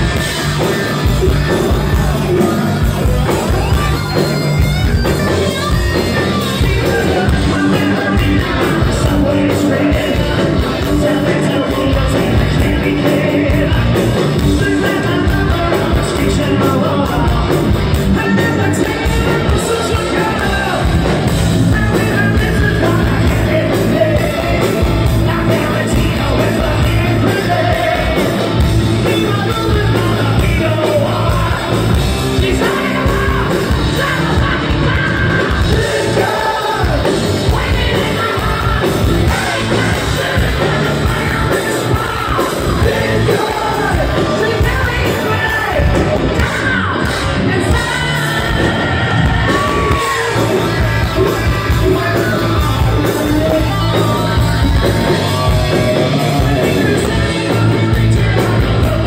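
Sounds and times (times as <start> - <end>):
drum kit: 0.0 - 59.0
electric guitars: 0.0 - 59.0
man singing: 5.0 - 59.0.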